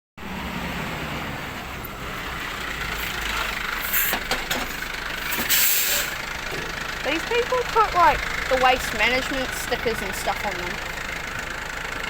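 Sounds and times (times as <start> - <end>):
truck engine running: 0.2 - 12.0.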